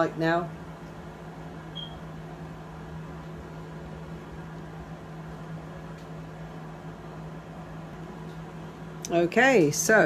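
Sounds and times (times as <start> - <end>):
convection fan humming: 0.0 - 10.0.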